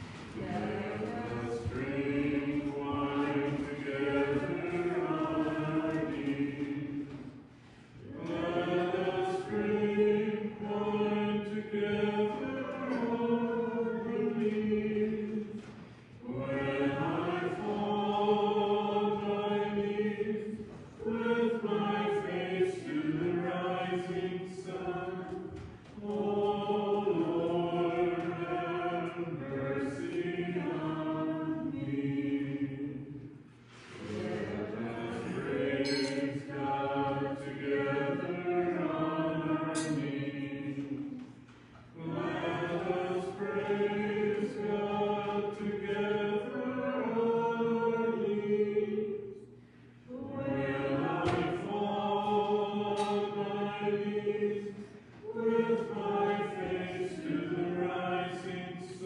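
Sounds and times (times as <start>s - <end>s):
voices singing a slow hymn: 0.0s - 59.0s.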